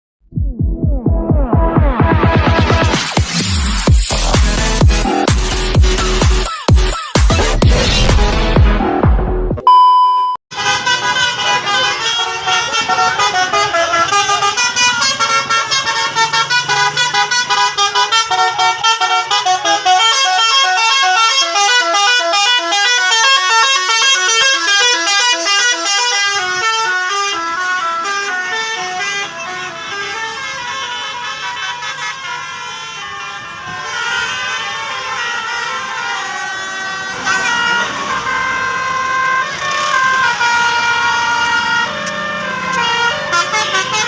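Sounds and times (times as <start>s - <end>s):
bus horns playing fast melody: 2.2s - 9.0s, 10.5s - 44.0s.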